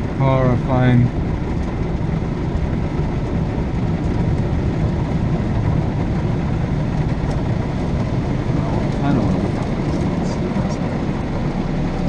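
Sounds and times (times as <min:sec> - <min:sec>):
car wash rushing noise: 0:00.0 - 0:12.0.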